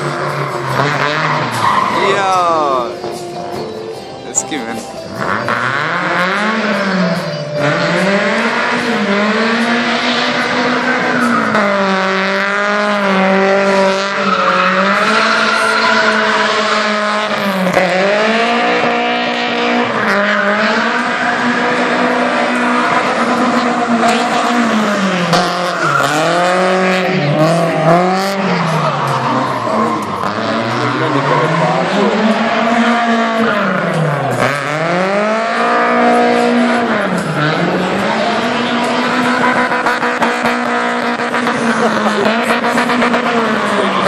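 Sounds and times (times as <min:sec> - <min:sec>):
tyres squealing: 0:00.0 - 0:18.8, 0:19.9 - 0:44.0
car engine revving: 0:00.0 - 0:44.0.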